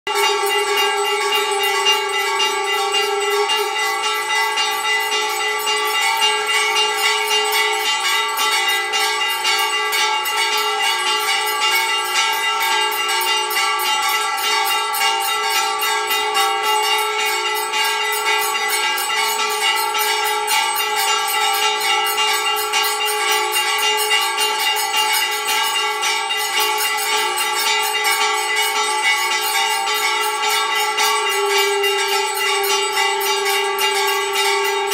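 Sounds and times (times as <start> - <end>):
bells ringing rapidly: 0.1 - 34.9.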